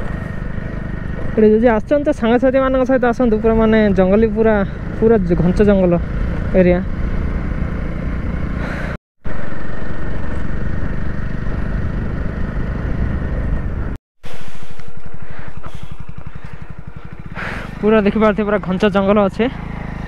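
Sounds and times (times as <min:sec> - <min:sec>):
motorcycle engine running: 0:00.0 - 0:20.0
road rumble: 0:00.0 - 0:20.0
wind: 0:00.0 - 0:20.0.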